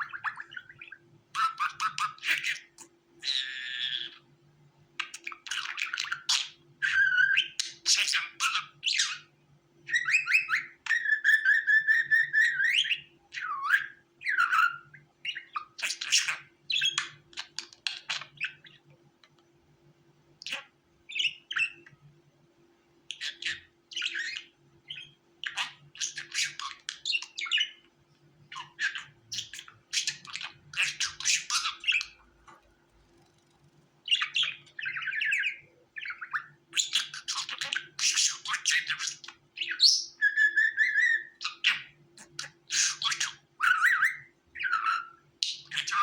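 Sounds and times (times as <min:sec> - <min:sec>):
budgerigars chattering and warbling: 0:00.0 - 0:04.2, 0:05.0 - 0:09.3, 0:09.9 - 0:18.8, 0:23.1 - 0:27.8, 0:28.5 - 0:32.4, 0:34.1 - 0:46.0
faint steady hum: 0:00.0 - 0:46.0.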